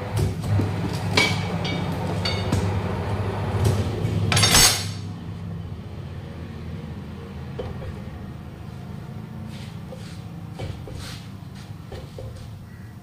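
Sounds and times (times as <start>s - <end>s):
tyre-changer machine humming: 0.0s - 12.8s.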